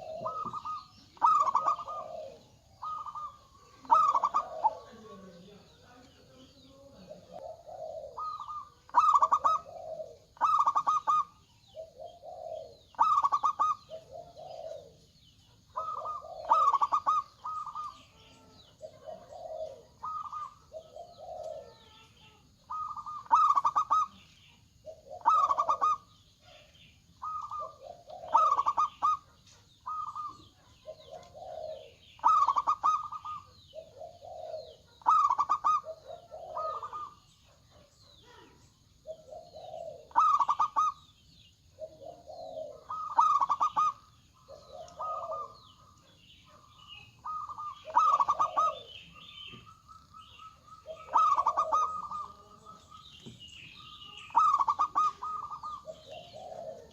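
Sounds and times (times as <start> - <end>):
doves cooing: 0.0 - 56.9.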